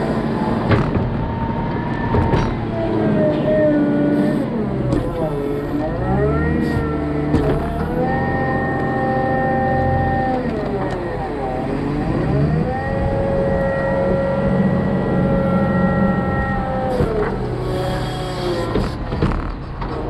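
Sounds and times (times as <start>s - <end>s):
diesel engine under hydraulic load: 0.0s - 20.0s.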